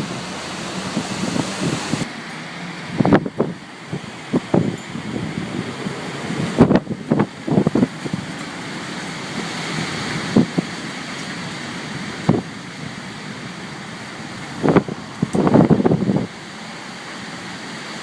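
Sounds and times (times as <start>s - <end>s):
wind gusts buffeting microphone: 0.0s - 2.1s, 2.8s - 18.0s
storm wind blowing: 0.0s - 18.0s.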